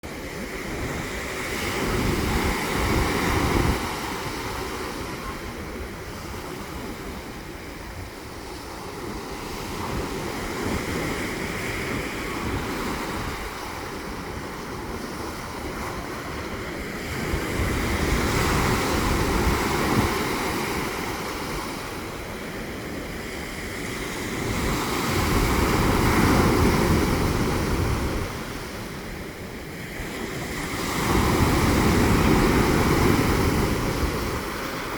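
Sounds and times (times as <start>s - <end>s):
waves of rough sea: 0.0s - 34.9s.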